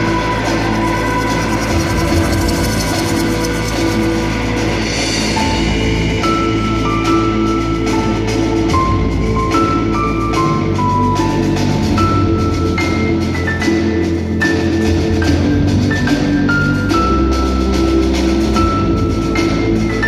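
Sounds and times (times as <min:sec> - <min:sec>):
ensemble melody over low drone: 0:00.0 - 0:20.0
percussion strikes: 0:00.0 - 0:20.0.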